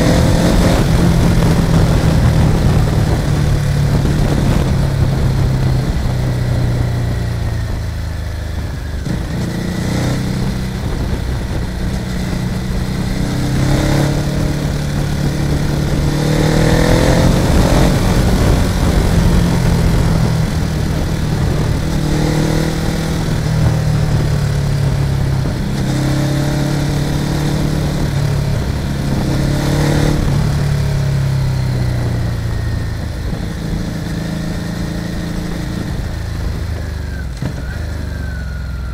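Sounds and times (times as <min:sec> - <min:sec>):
motorcycle engine accelerating: 0:00.0 - 0:38.9
wind on microphone: 0:00.0 - 0:38.9.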